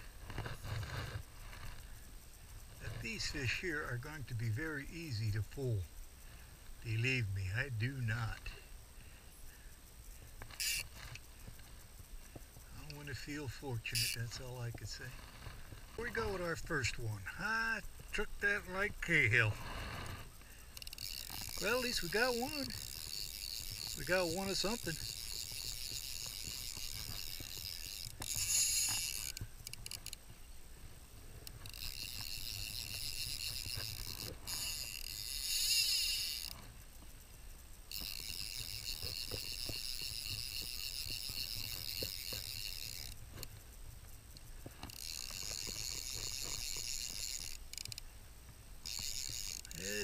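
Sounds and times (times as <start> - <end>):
fly reel drag ratcheting: 0.1 - 8.6, 9.8 - 30.4, 31.4 - 48.1, 48.8 - 50.0.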